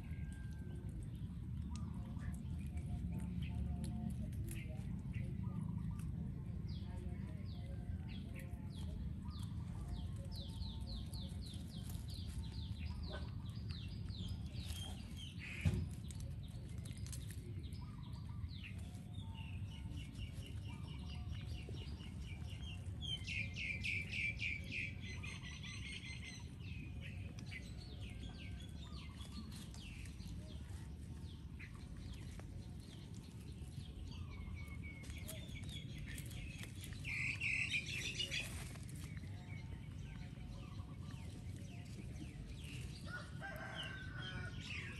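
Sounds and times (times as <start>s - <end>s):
steady low rumble: 0.0s - 44.9s
birds chirping: 1.6s - 44.9s.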